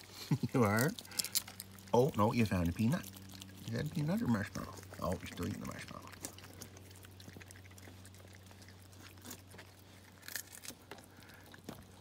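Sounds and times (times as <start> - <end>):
animal chewing wet clicks: 0.0 - 12.0
steady low hum: 0.0 - 12.0.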